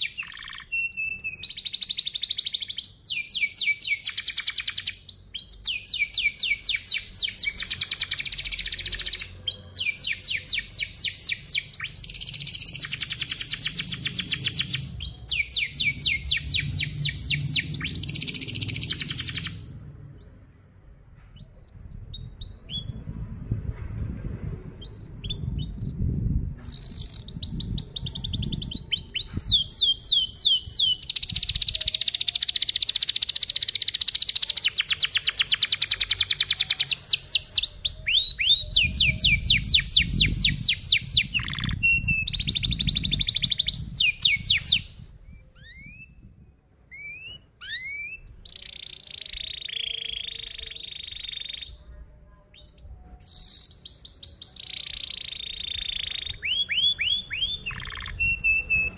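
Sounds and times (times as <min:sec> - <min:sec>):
canary singing: 0:00.0 - 0:20.5, 0:24.8 - 0:58.9.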